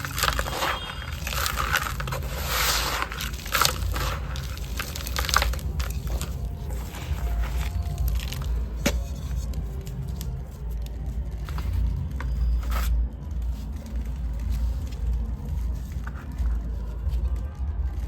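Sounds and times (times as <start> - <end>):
gritty scraping: 0.0 - 18.0
heavy low rumble: 0.0 - 18.0
sand-cement and clay crushing: 0.0 - 18.0.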